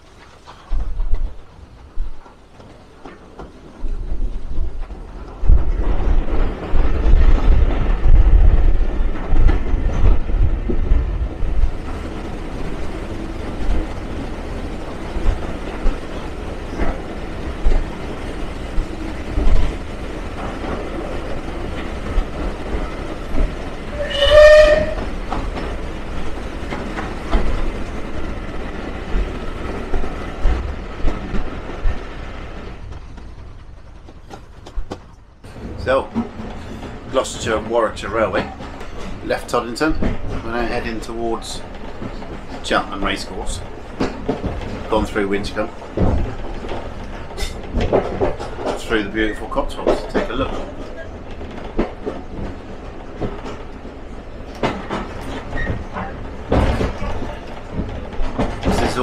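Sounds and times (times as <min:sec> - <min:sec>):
train wheels rumbling in tunnel: 0:00.0 - 0:59.0.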